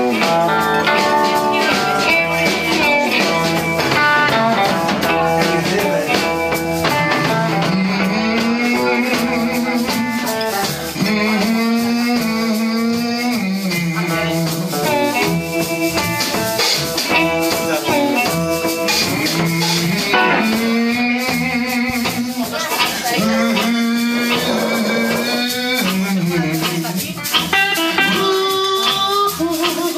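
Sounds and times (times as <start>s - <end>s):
harmonica wailing: 0.0s - 26.2s
blues band playing: 0.0s - 29.9s.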